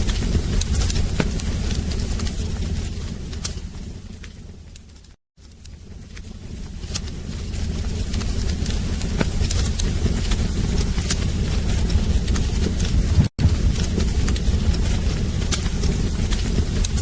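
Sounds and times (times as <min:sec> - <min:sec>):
burning logs crackling and popping: 0:00.0 - 0:17.0
fire flames rumbling: 0:00.0 - 0:17.0.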